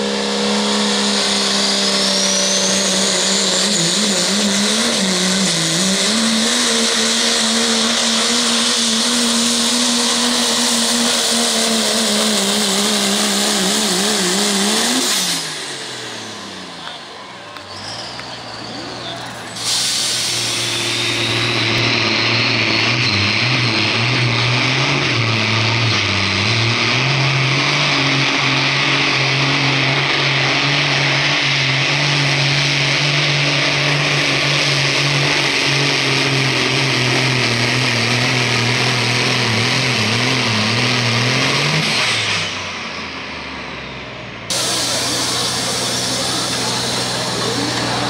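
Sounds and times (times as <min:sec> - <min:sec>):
diesel truck engine under load: 0:00.0 - 0:48.0.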